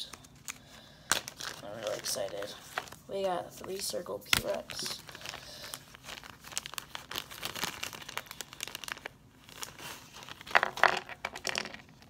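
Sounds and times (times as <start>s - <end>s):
plastic bag crinkling: 0.5s - 12.0s.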